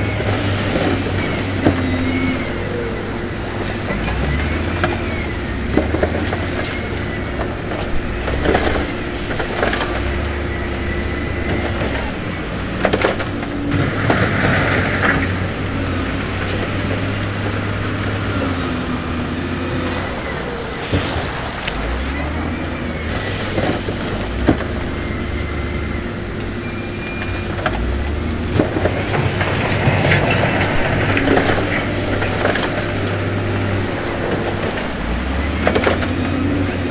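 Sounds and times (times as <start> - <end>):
diesel machinery droning: 0.0 - 36.9.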